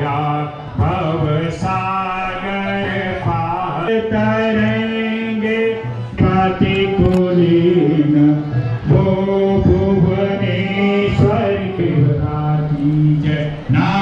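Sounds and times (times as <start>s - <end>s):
men chanting a hymn: 0.0s - 14.0s.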